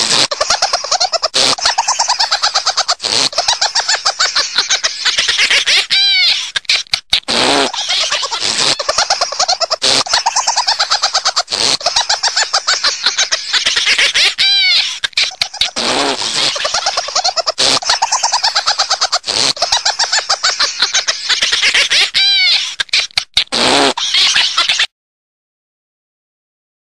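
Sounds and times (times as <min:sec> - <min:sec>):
high-pitched cackling laugh: 0:00.0 - 0:24.9.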